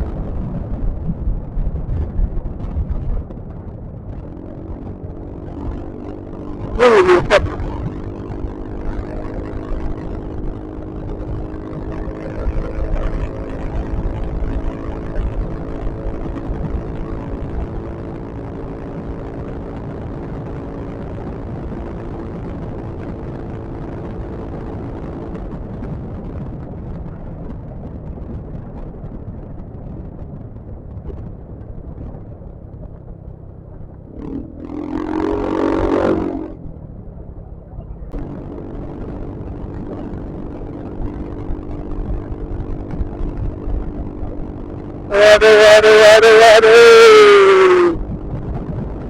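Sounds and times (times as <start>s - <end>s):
scooter engine humming: 0.0s - 49.0s
wind rumble on microphone: 0.0s - 49.0s.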